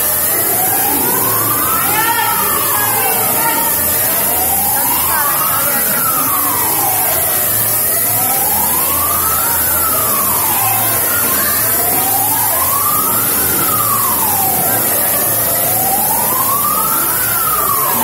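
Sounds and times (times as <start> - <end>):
steady high hiss: 0.0 - 18.0
wailing siren: 0.0 - 18.0.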